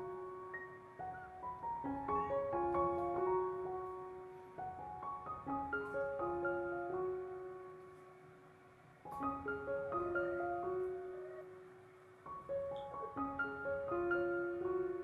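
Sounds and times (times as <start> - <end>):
light keyboard melody: 0.0 - 15.0.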